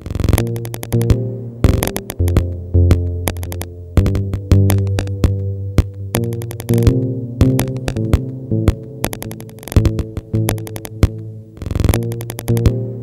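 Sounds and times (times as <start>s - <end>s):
electronic music with drum machine: 0.0s - 13.0s.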